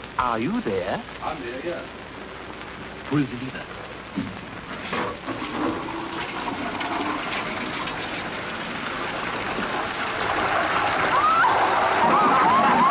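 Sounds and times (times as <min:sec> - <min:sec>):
rushing hissing noise: 0:00.0 - 0:12.9.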